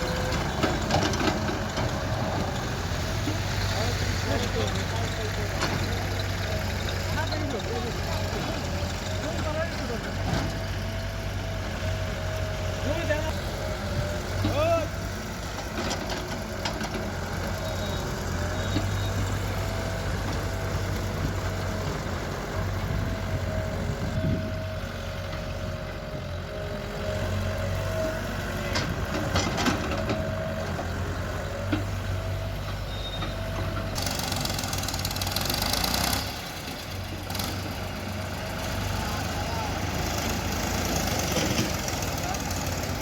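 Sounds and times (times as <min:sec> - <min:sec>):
diesel engines running: 0:00.0 - 0:43.0.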